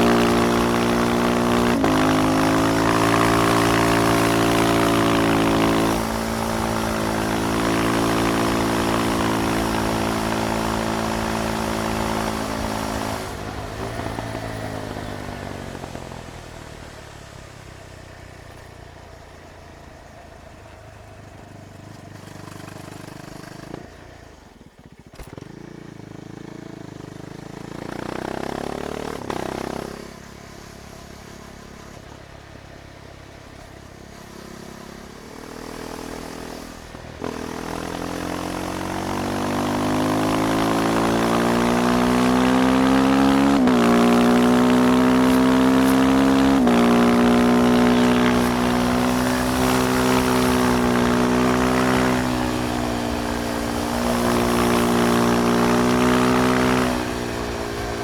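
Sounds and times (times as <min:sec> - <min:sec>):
motorcycle engine revving and accelerating: 0:00.0 - 0:58.0.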